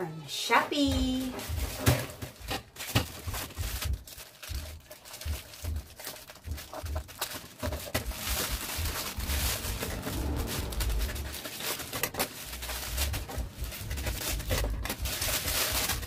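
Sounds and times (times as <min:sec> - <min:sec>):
plastic bag crinkling: 0:00.9 - 0:16.0.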